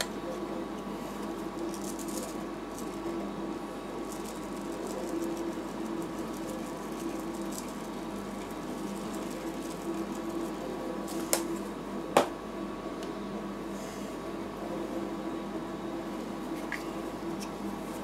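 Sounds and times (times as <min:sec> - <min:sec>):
refrigeration unit humming: 0:00.0 - 0:18.0.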